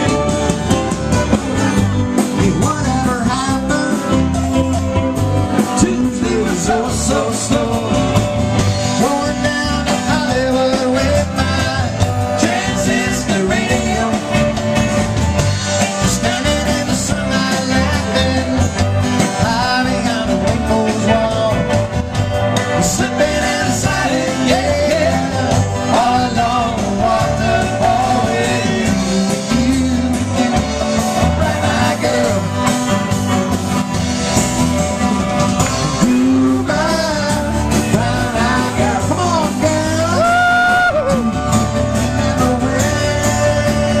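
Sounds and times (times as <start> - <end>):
man singing lead: 0.0 - 4.9, 5.5 - 14.8, 15.6 - 33.8, 35.6 - 44.0
acoustic guitar: 0.0 - 44.0
bass guitar: 0.0 - 44.0
drums: 0.0 - 44.0.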